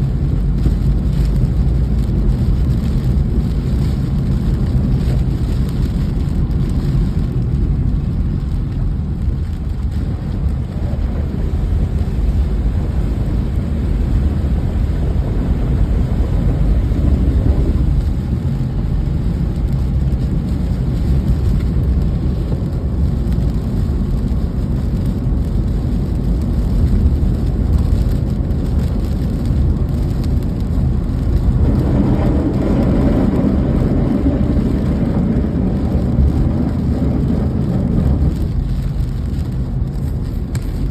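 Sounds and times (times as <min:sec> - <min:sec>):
low rumble: 0:00.0 - 0:40.9
steady rain: 0:00.0 - 0:40.9.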